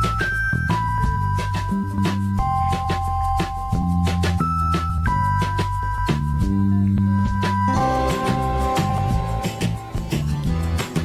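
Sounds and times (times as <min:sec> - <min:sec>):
background music with synth: 0:00.0 - 0:11.0.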